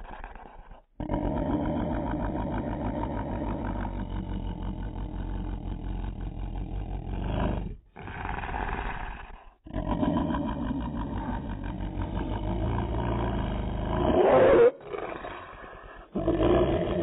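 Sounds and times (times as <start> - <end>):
dog growling slowed down: 0.0 - 17.0.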